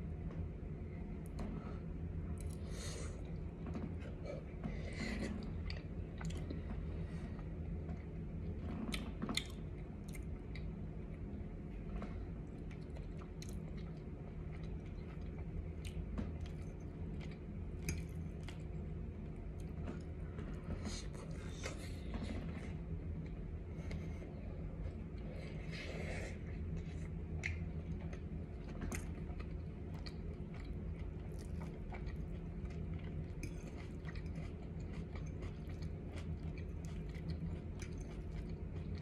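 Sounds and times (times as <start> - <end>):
steady low hum: 0.0 - 39.0
close-up chewing: 2.3 - 39.0.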